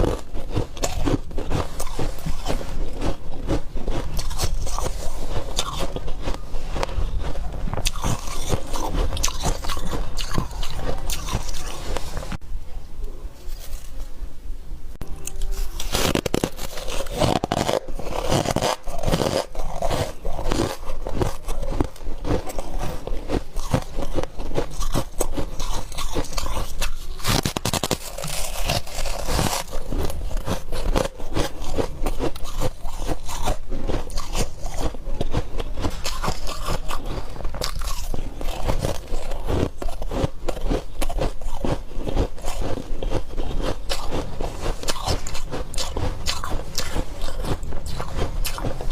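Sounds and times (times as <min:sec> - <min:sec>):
person crunching ice: 0:00.0 - 0:12.4, 0:15.2 - 0:48.9.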